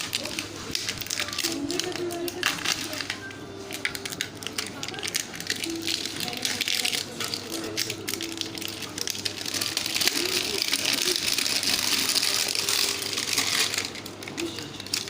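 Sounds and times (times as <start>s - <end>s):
faint voices: 0.0s - 15.0s
packaging crinkling and rustling: 0.0s - 15.0s.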